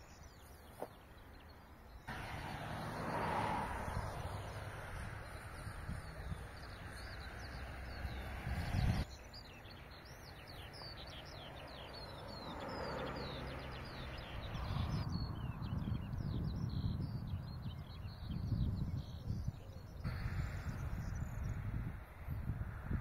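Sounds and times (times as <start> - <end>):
small birds chirping and singing: 0.0 - 23.0.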